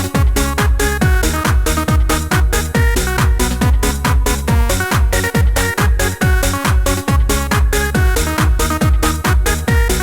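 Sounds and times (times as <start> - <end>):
kick drum beat: 0.0 - 10.0.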